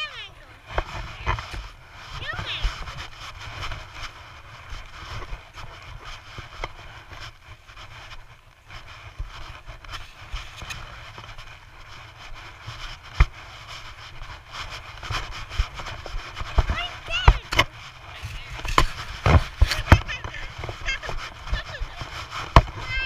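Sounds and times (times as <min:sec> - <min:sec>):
camera handling rumble: 0:02.7 - 0:23.0.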